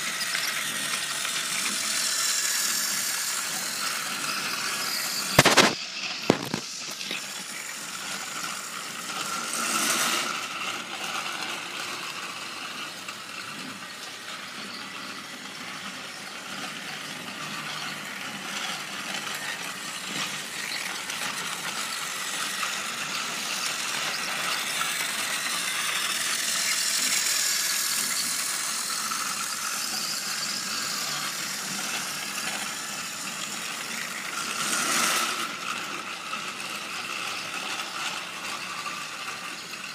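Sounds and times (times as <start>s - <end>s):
toy trains whirring and rattling: 0.0s - 39.9s.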